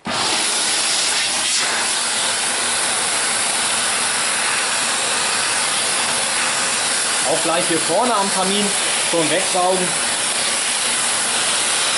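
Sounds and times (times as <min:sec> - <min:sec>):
vacuum cleaner hissing: 0:00.0 - 0:11.9.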